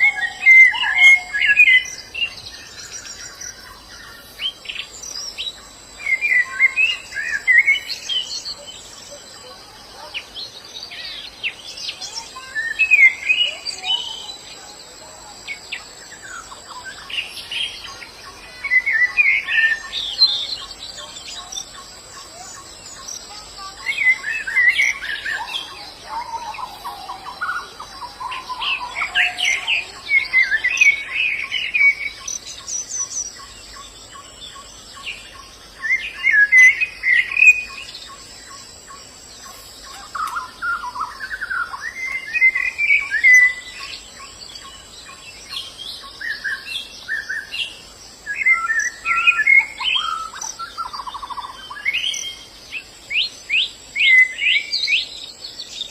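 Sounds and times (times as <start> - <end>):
birds twittering high chirps: 0.0 - 55.9.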